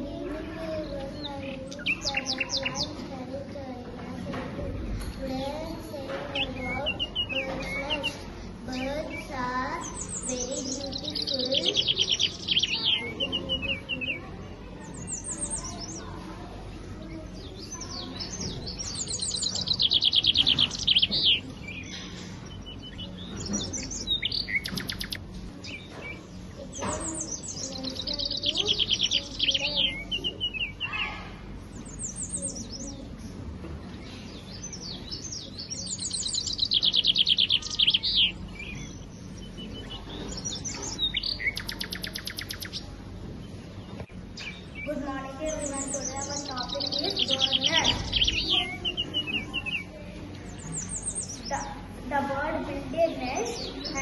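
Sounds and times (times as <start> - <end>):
bird trilled chirping: 0.0 - 4.3, 5.1 - 33.3, 34.0 - 54.0.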